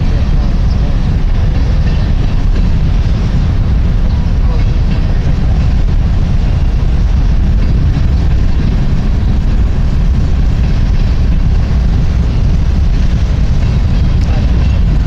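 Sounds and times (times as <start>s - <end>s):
freight train rolling rumble: 0.0s - 15.0s.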